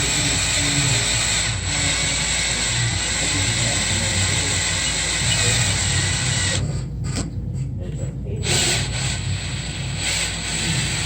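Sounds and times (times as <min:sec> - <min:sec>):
drill running: 0:00.0 - 0:06.9, 0:08.4 - 0:11.0.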